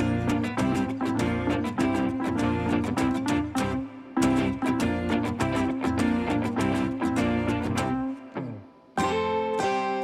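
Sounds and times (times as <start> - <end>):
rhythmic instrumental music: 0.0 - 10.0.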